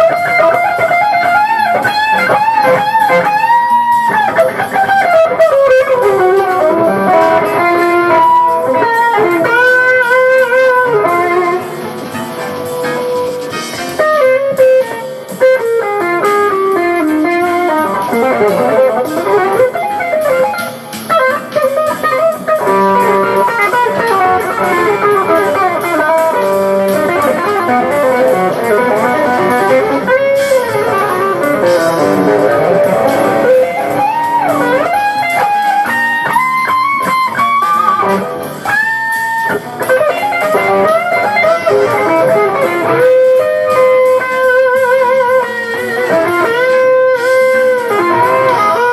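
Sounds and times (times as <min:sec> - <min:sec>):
electric guitar solo: 0:00.0 - 0:48.9
jazz fusion band playing: 0:00.0 - 0:48.9.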